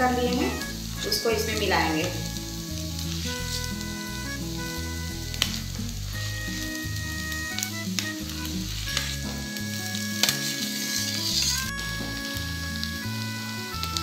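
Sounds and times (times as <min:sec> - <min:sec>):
light background music: 0:00.0 - 0:14.0
vegetable stuffing sizzling in a pan: 0:00.0 - 0:14.0.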